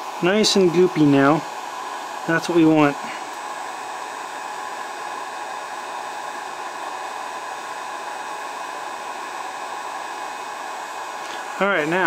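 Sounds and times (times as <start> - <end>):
heat gun blowing hot air: 0.0 - 12.0.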